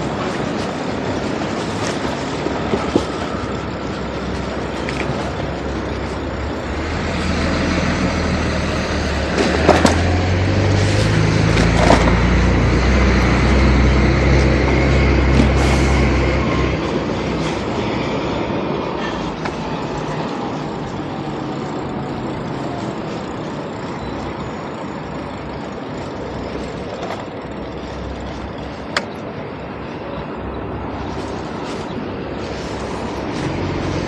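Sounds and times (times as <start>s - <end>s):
city street riding noise: 0.0s - 34.0s
heavy vehicle low rumble: 0.0s - 34.0s.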